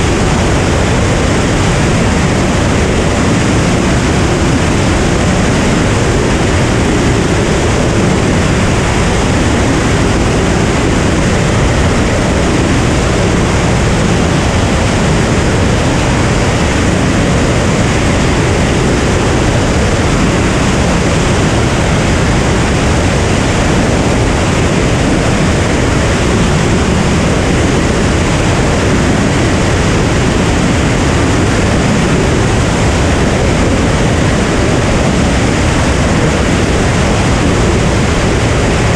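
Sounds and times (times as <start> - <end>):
aircraft engine and propeller drone: 0.0 - 38.9
airflow rushing over microphone: 0.0 - 38.9.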